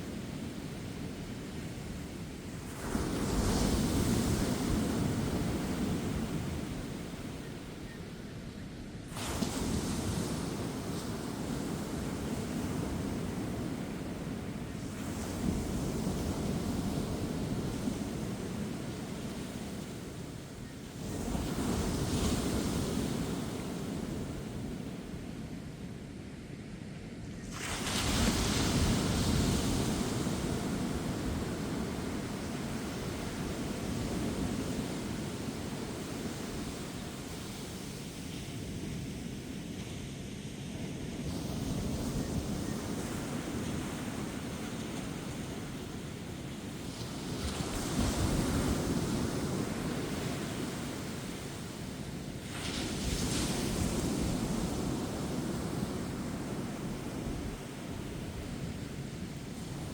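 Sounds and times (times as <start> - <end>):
gentle wind: 0.0 - 59.9.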